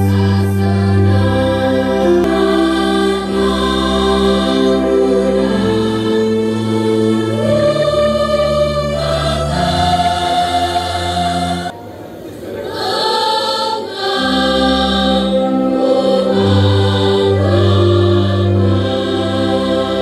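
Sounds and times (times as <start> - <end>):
choir singing long slow notes: 0.0 - 20.0.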